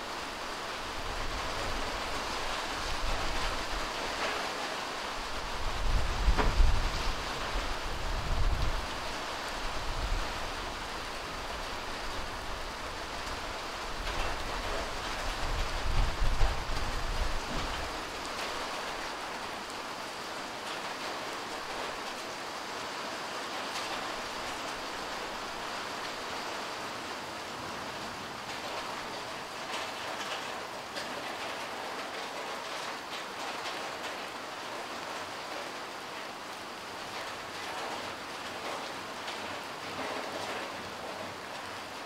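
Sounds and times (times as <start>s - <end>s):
light rain falling: 0.0s - 42.0s.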